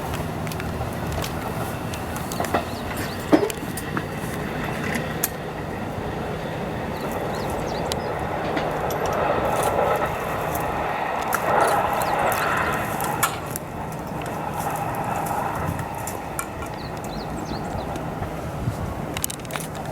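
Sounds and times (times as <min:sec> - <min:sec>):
electric train rumbling: 0:00.0 - 0:19.9.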